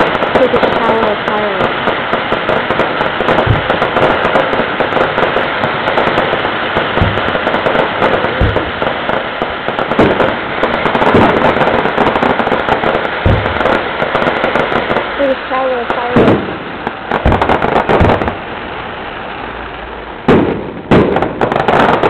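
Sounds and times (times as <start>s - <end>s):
deep booms of shells bursting: 0.0s - 15.2s, 16.0s - 18.8s, 20.2s - 22.0s
fireworks crackling: 0.0s - 22.0s.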